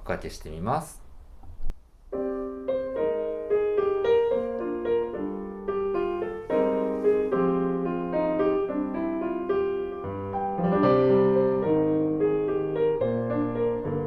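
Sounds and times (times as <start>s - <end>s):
piano music over loudspeakers: 2.2s - 14.0s.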